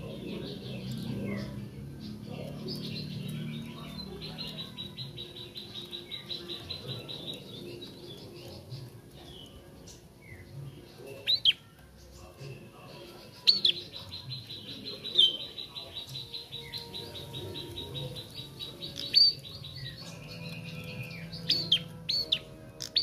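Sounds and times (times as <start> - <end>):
bird trilling: 0.0 - 9.5, 10.2 - 11.7, 13.0 - 23.0
sharp sweeping bird calls: 0.0 - 11.7, 13.1 - 23.0
bird chips: 0.0 - 23.0.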